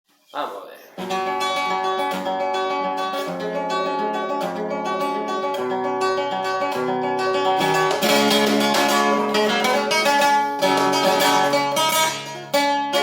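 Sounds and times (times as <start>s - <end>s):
acoustic guitar playing: 0.4s - 13.0s.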